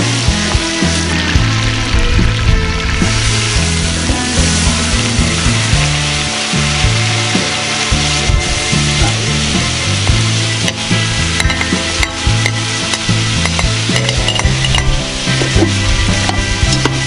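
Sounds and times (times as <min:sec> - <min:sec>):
meat and onions sizzling: 0:00.0 - 0:17.0.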